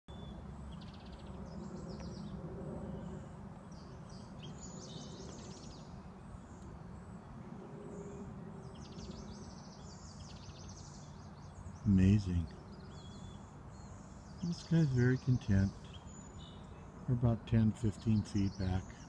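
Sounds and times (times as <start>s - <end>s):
songbirds trilling: 0.1s - 19.0s.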